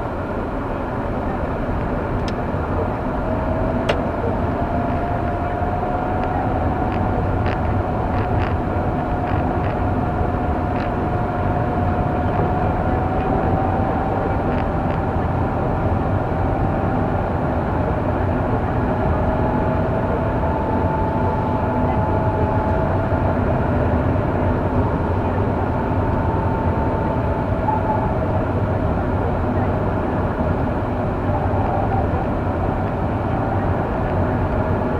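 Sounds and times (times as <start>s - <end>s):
engine and tyre rumble: 0.0s - 34.9s
faint whine: 0.0s - 34.9s.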